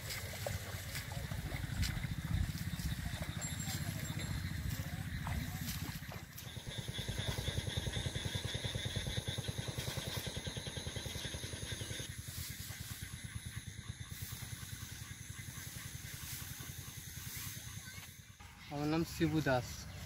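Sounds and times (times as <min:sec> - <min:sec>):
small engine running: 0:00.0 - 0:18.8.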